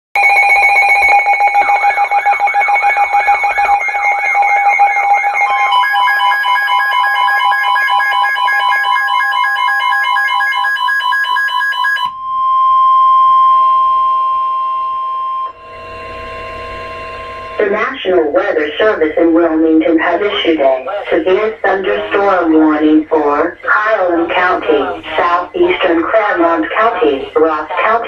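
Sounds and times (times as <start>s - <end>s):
electronic alarms beeping and warbling: 0.2s - 28.0s
steady warning alarm tone: 0.2s - 28.0s.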